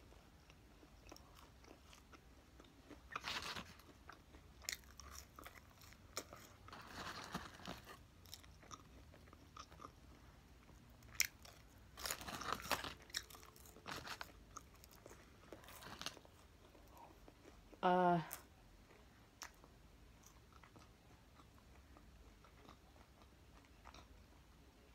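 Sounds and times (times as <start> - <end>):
person chewing food: 0.0 - 24.9.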